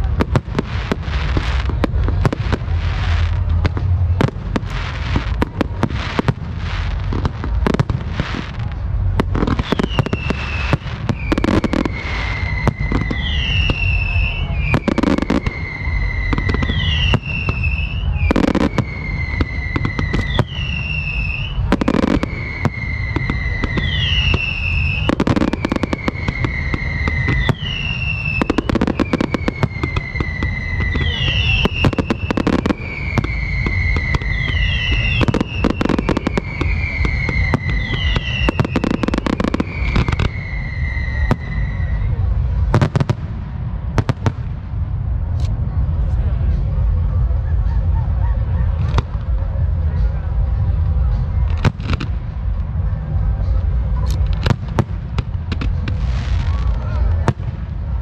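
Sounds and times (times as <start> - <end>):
descending firework whistle: 0.0 - 58.0
fireworks launching and bursting: 0.0 - 58.0.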